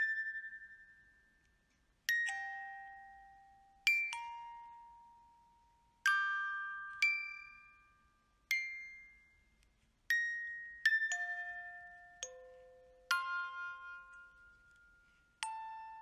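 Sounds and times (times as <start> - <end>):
slow bell-like music: 0.0 - 16.0.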